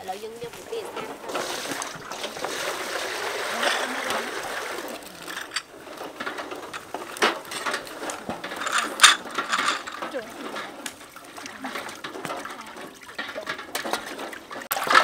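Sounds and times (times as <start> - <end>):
water splashing: 0.0 - 15.0
water pouring into a steel basin: 0.5 - 15.0.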